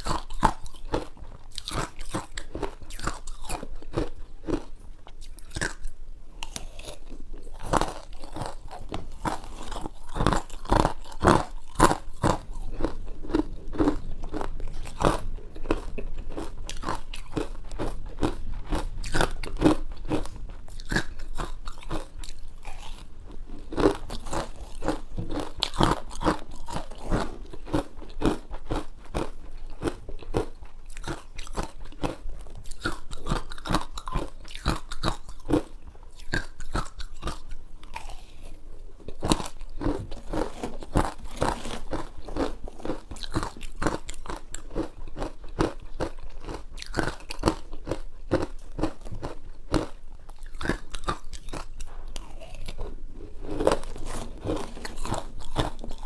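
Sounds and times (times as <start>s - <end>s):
chewing and crunching ice: 0.0s - 56.0s.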